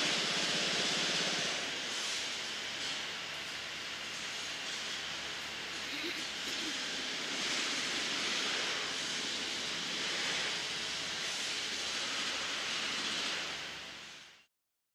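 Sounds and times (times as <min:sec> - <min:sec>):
steady rushing hiss: 0:00.0 - 0:14.5.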